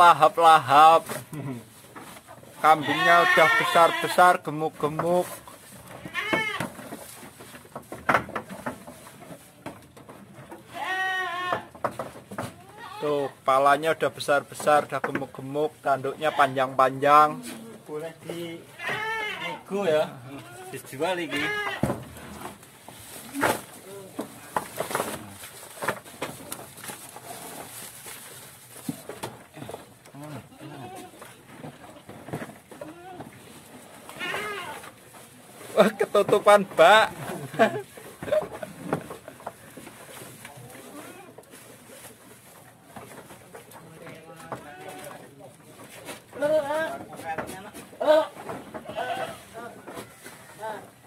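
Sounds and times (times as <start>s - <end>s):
leafy feed rustling: 0.0s - 11.3s, 13.1s - 51.0s
goats feeding in wooden trough: 0.0s - 51.0s.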